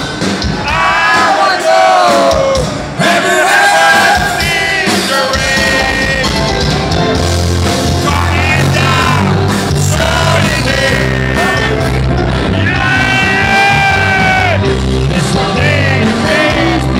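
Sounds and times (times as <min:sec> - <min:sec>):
loud rock music: 0:00.0 - 0:16.9
men singing and shouting: 0:00.5 - 0:07.0, 0:07.8 - 0:16.9.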